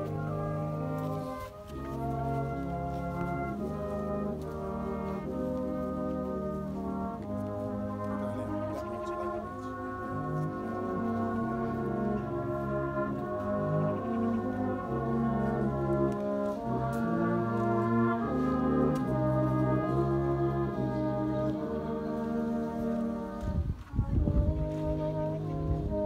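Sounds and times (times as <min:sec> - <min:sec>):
brass band playing slow chords: 0:00.0 - 0:26.0.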